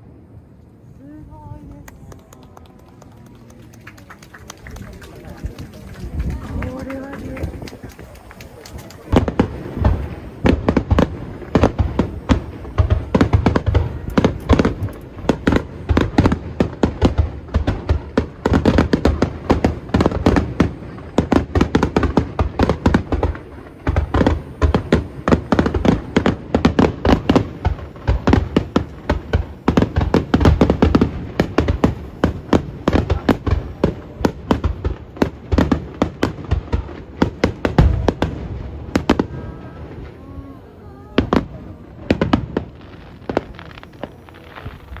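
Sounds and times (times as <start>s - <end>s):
deep fireworks rumble: 0.0s - 45.0s
fireworks bangs: 0.0s - 45.0s.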